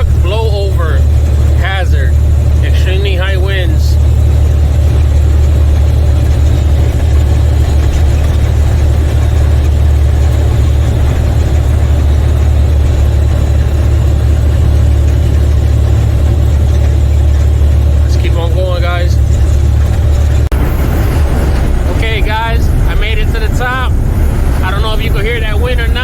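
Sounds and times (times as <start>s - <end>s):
road and wind noise: 0.0s - 26.0s
truck diesel engine rumble: 0.0s - 26.0s.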